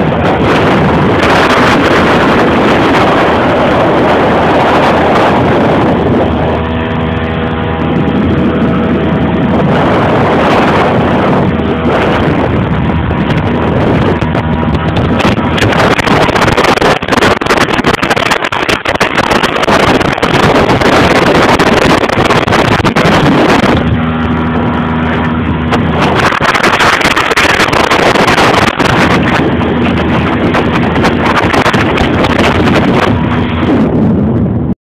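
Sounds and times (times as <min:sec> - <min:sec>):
motorboat engine running: 0:00.0 - 0:34.7
water noise: 0:00.0 - 0:34.8
wind on microphone: 0:00.0 - 0:34.8.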